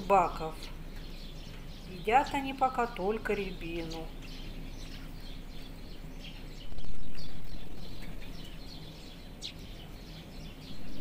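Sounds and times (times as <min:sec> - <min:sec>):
steady background noise: 0:00.0 - 0:11.0
thrushes chirping: 0:00.0 - 0:11.0.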